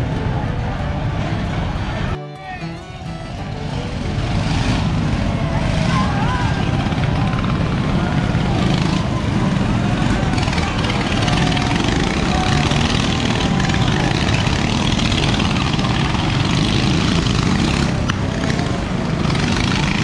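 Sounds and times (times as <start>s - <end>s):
go-kart engines running: 0.0s - 20.0s.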